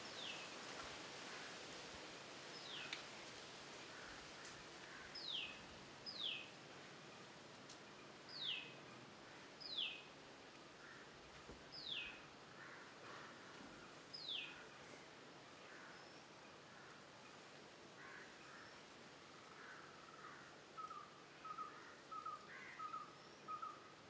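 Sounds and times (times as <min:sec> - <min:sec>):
faint steady outdoor hiss: 0:00.0 - 0:24.0.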